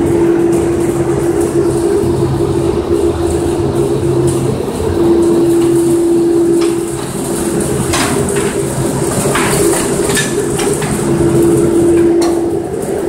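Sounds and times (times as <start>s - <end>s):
belt lift humming and rumbling: 0.0s - 13.0s.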